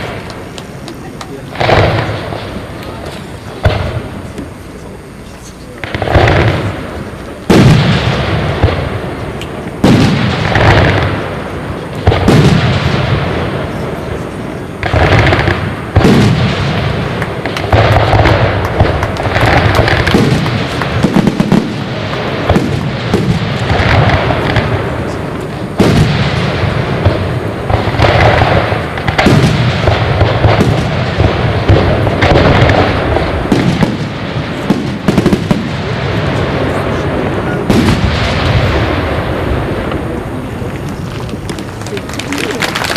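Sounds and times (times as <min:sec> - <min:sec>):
echoing rumble and crackle: 0:00.0 - 0:42.9
fireworks bangs: 0:00.0 - 0:42.9.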